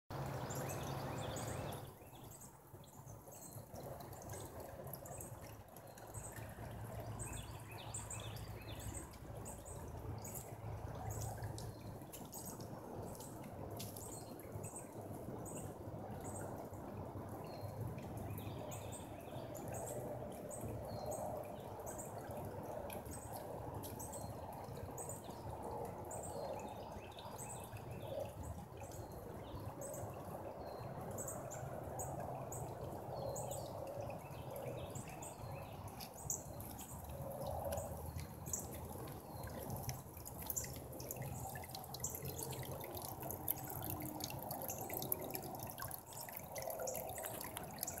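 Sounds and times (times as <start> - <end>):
water trickling into pond: 0.1 - 48.0.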